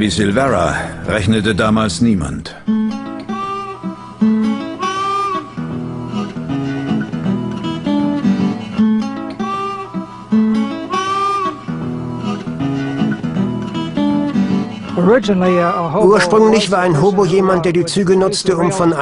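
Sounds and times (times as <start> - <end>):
acoustic guitar picking: 0.0 - 19.0.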